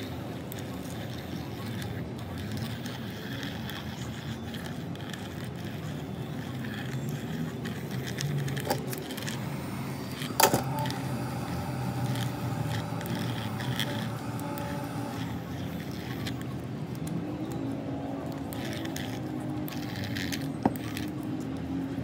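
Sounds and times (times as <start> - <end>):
metal pick scraping glass: 1.2 - 16.5, 18.4 - 21.2.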